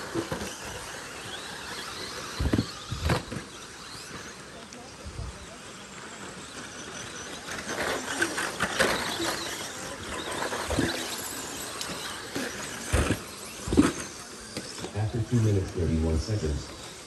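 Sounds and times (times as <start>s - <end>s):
tyres scrabbling on dirt: 0.0s - 4.6s, 6.4s - 17.0s
rc car high-pitched whine: 0.0s - 17.0s.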